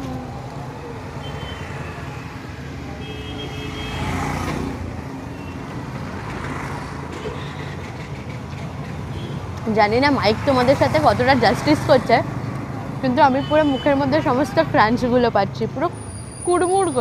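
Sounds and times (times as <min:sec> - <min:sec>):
scooters and cars passing: 0:00.0 - 0:17.0.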